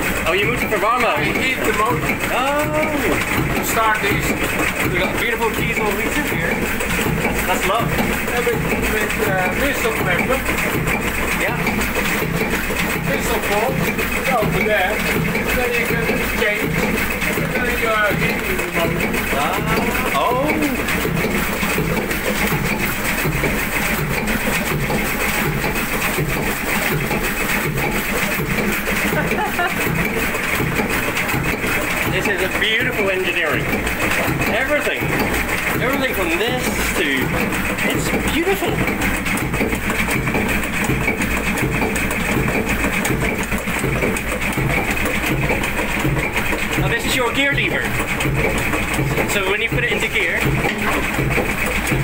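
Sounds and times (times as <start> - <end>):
boat diesel engine running: 0.0 - 52.0.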